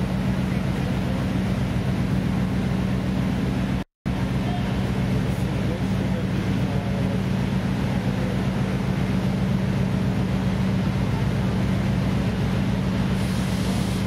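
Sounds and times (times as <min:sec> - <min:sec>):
ship machinery droning: 0:00.0 - 0:14.0.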